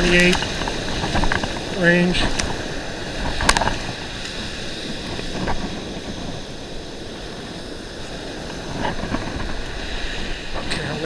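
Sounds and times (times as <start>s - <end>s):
surf rushing: 0.0s - 11.0s
wind buffeting microphone: 0.0s - 11.0s.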